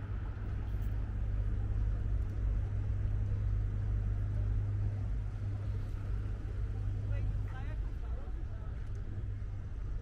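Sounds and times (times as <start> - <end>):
outdoor city noise: 0.0 - 10.0
street traffic rumble: 0.0 - 10.0.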